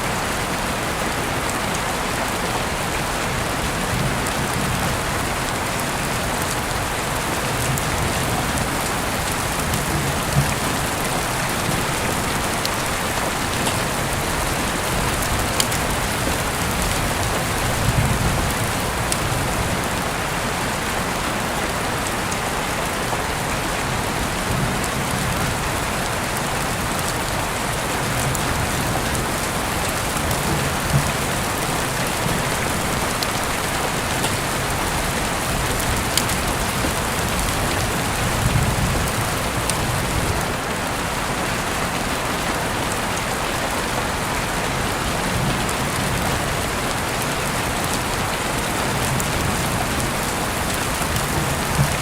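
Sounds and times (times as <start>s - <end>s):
heavy rain hissing: 0.0s - 52.0s.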